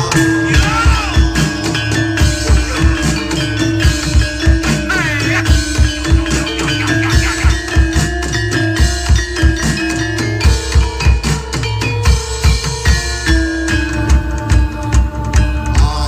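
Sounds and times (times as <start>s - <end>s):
gamelan music with drums: 0.0s - 16.0s.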